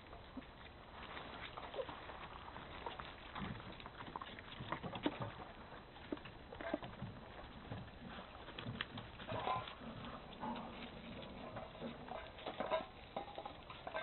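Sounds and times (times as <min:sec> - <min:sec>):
puppy moving over gravel: 0:00.0 - 0:14.0.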